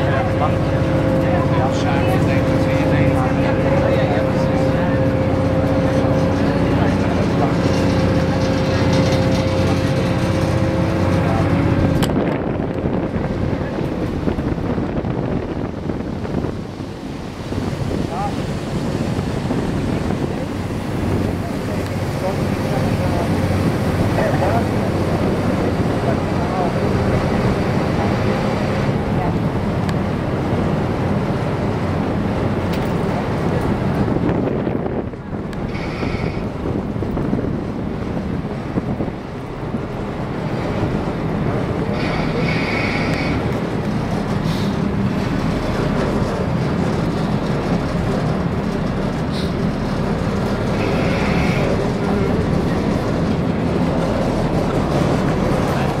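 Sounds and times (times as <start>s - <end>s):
ferry engine humming: 0.0s - 56.0s
water rushing past hull: 0.0s - 56.0s
wind buffeting microphone: 0.0s - 56.0s.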